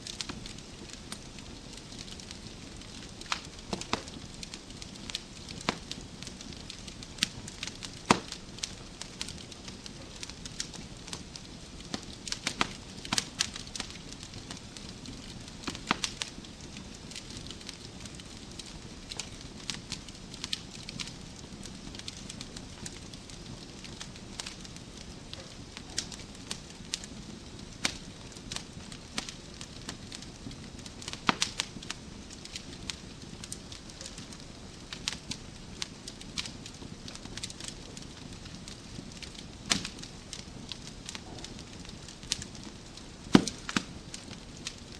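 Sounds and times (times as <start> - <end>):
burning logs hissing: 0.0 - 44.9
fire snaps and pops: 0.0 - 44.9.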